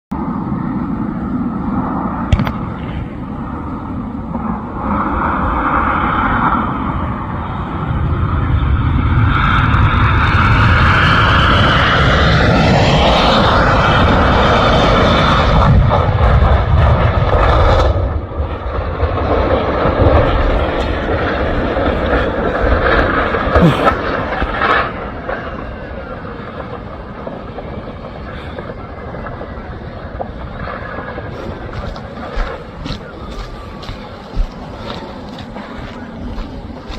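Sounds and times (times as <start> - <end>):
airliner engine noise: 0.1 - 36.9.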